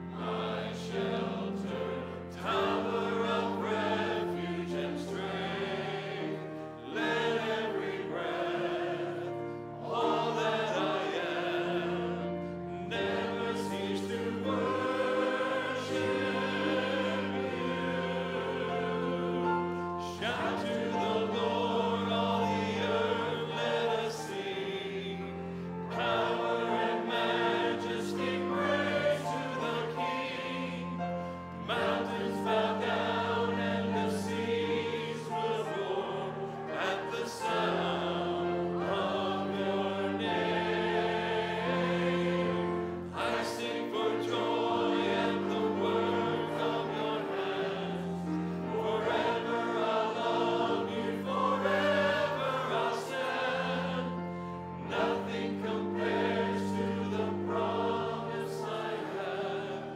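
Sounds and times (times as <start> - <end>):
choir and congregation singing: 0.0 - 59.9
piano accompaniment: 0.0 - 59.9.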